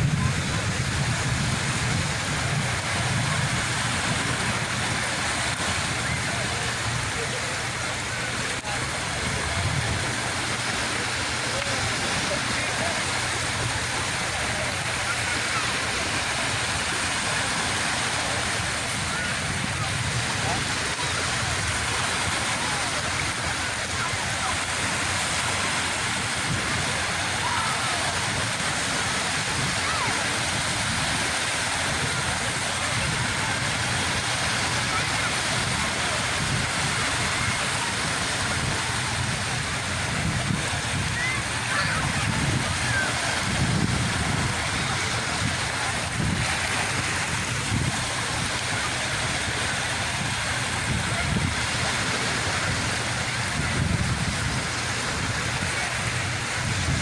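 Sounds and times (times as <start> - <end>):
sea waves washing on shore: 0.0 - 57.0
wind gusts on microphone: 0.0 - 57.0.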